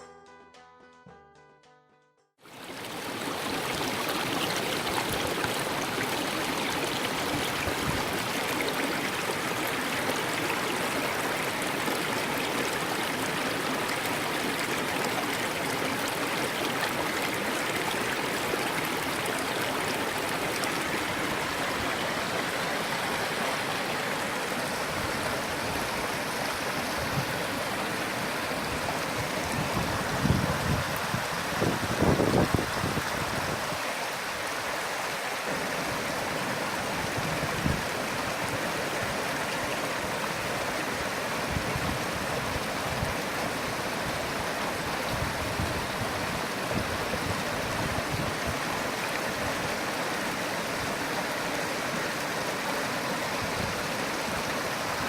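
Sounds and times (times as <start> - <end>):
stream flowing over rocks: 2.4 - 55.0.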